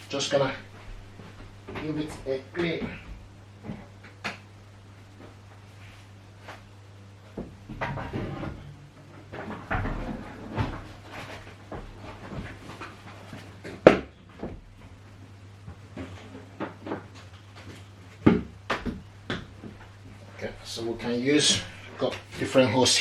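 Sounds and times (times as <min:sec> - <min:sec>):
rustling and light knocks: 0:00.0 - 0:22.6
low steady hum: 0:00.0 - 0:23.0.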